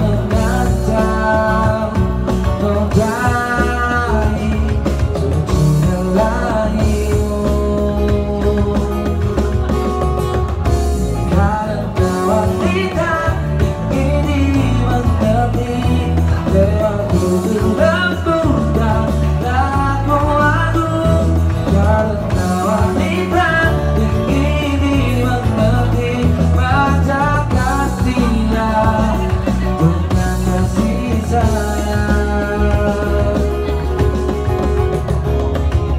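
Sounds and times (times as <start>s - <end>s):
man singing into a microphone: 0.0s - 35.0s
live band playing: 0.0s - 35.9s
steady bass line: 0.0s - 35.9s.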